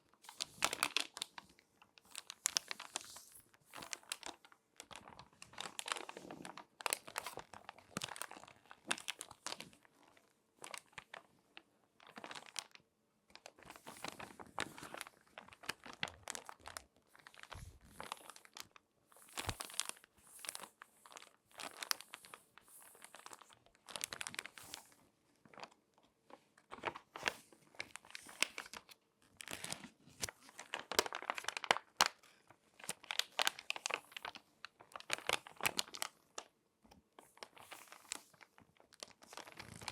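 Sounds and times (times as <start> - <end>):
magazine pages crinkling: 0.2 - 9.9, 12.0 - 12.8, 13.4 - 25.8, 26.6 - 36.5, 37.2 - 39.9.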